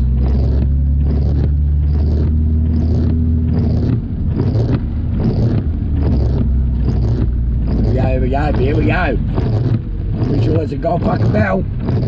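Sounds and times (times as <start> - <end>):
car engine and road drone: 0.0 - 12.0
rain on car: 0.0 - 12.0
windscreen wiper swish: 0.0 - 12.0.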